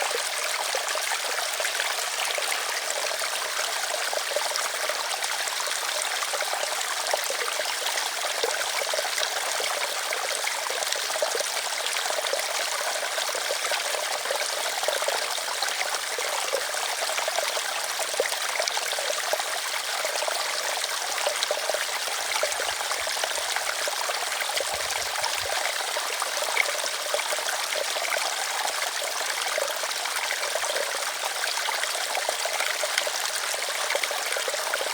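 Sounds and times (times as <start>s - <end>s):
small stream babbling: 0.0s - 34.9s.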